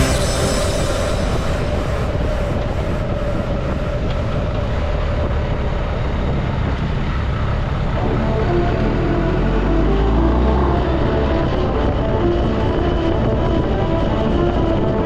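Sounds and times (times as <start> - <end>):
wind noise: 0.0 - 9.0, 10.7 - 15.0
vehicle engine and road rumble: 0.0 - 15.0.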